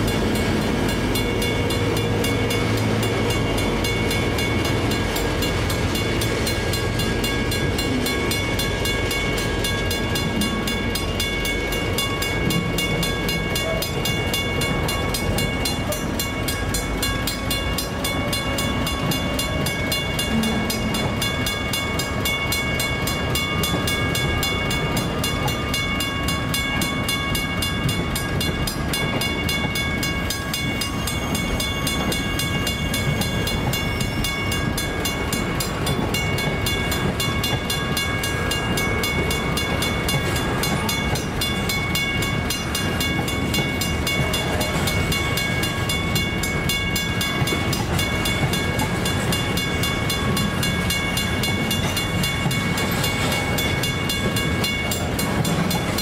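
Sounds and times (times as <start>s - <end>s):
freight train wheels rumbling on rail: 0.0s - 56.0s
level-crossing warning bell: 0.0s - 56.0s.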